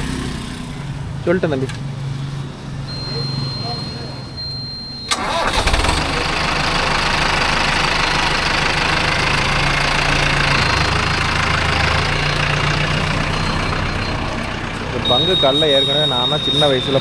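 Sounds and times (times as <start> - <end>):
tractor diesel engine running: 2.2 - 17.0.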